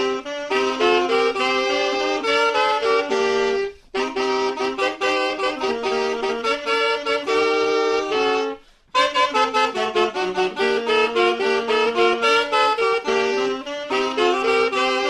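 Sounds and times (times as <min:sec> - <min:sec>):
saxophone ensemble playing ska: 0:00.0 - 0:15.0.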